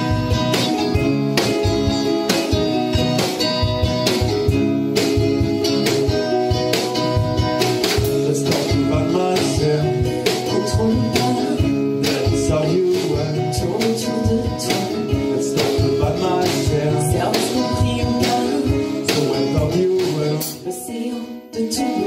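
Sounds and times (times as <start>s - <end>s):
strummed acoustic guitar: 0.0s - 22.0s
ukulele: 0.0s - 22.0s.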